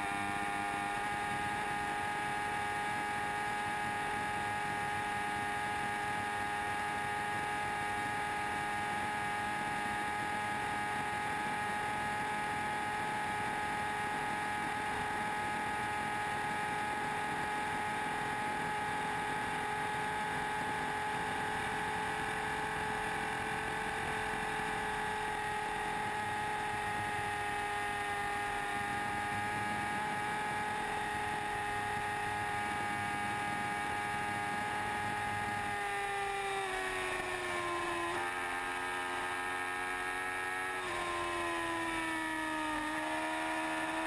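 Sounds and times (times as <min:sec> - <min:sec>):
motorcycle engine at high revs: 0:00.0 - 0:44.0.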